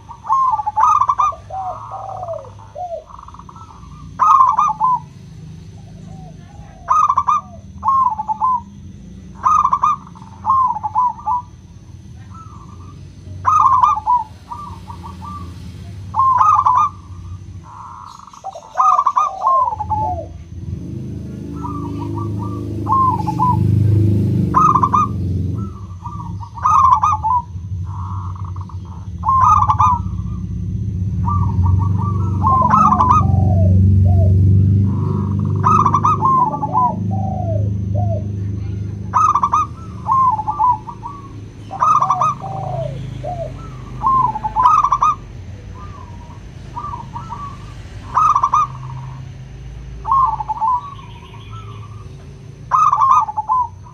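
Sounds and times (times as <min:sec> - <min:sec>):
dove cooing: 0:00.0 - 0:53.9
low steady background sound: 0:00.0 - 0:53.9.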